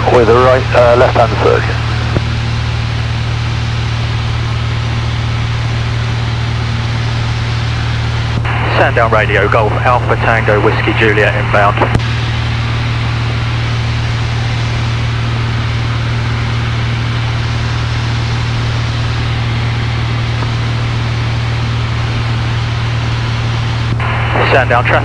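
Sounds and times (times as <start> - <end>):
airplane engine and propeller drone: 0.0 - 25.0.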